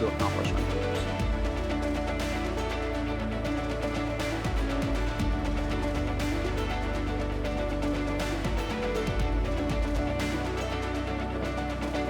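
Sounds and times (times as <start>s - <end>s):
background music with bass and beat: 0.0s - 12.0s.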